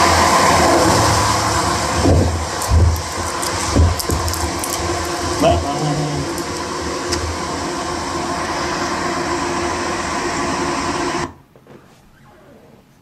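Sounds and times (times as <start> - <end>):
diesel engine droning: 0.0 - 11.1.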